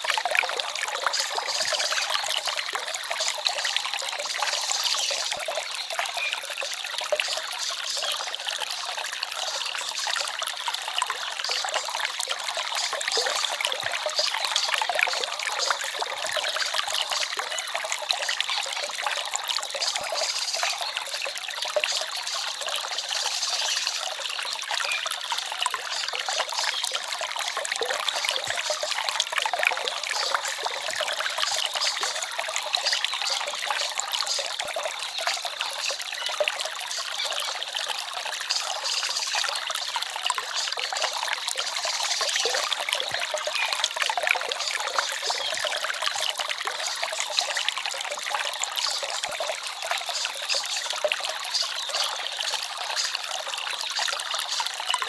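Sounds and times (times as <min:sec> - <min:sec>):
forest stream trickling: 0:00.0 - 0:55.0.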